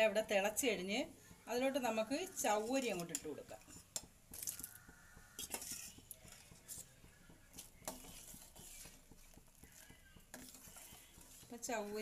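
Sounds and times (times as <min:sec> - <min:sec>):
spoon stirring in a pot: 0:00.0 - 0:12.0.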